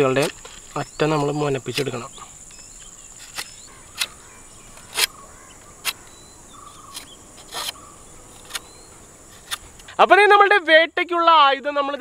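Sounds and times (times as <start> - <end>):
high-pitched insect drone: 0.0 - 11.6.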